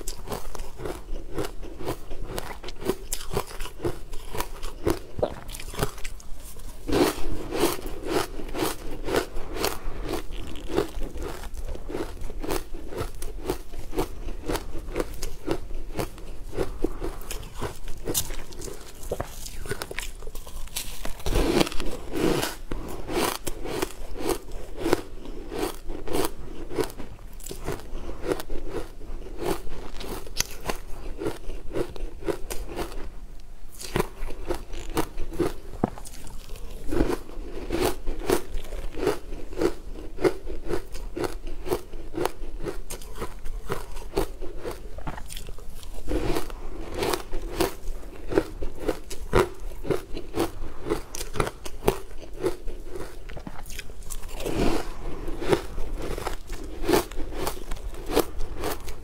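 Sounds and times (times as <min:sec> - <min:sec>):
crunching and chewing ice: 0:00.0 - 0:59.0.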